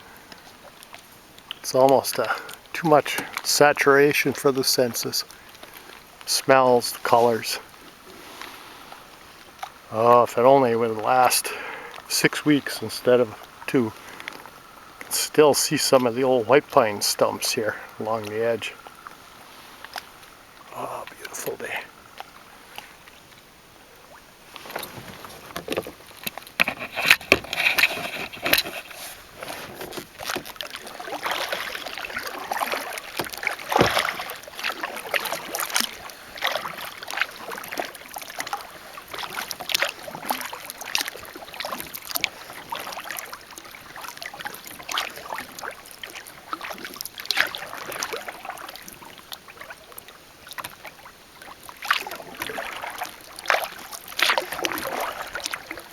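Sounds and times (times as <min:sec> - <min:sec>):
paddle splashing water: 0:00.0 - 0:55.9.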